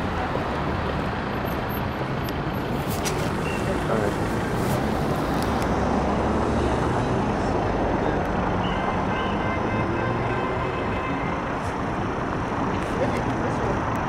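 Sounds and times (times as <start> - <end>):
passing vehicles: 0.0 - 14.0.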